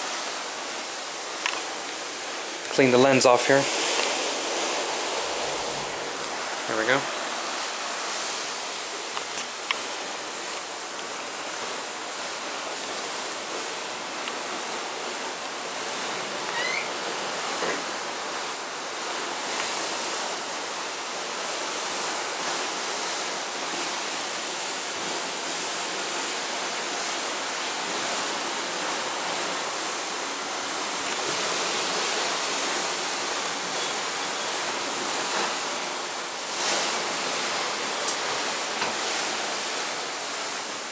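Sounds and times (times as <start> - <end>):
sea water rushing along hull: 0.0 - 40.9.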